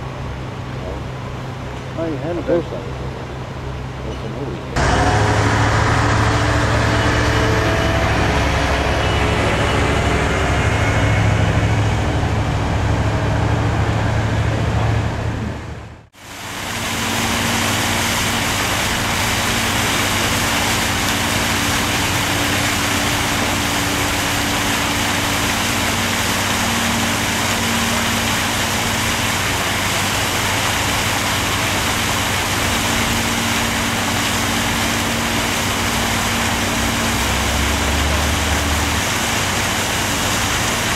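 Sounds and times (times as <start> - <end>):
water pumps humming: 0.0 - 40.9
water gushing from hose: 4.8 - 14.1, 16.2 - 40.9.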